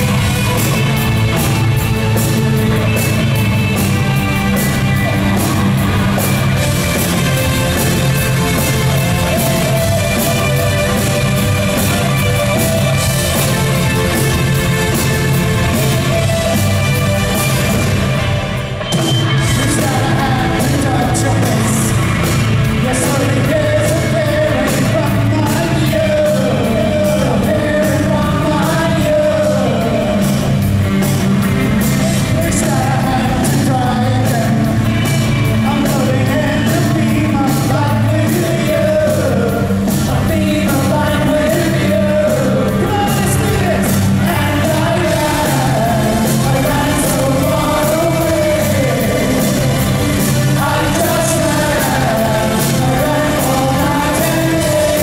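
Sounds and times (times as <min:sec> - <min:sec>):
live rock band with singer: 0:00.0 - 0:55.0.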